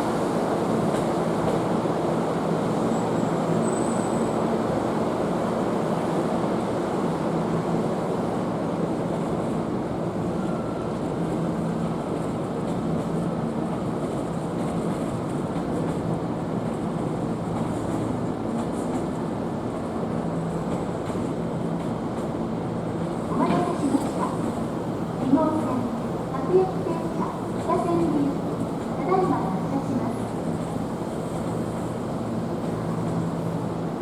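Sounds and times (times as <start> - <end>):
electric train rumbling: 0.0 - 34.0.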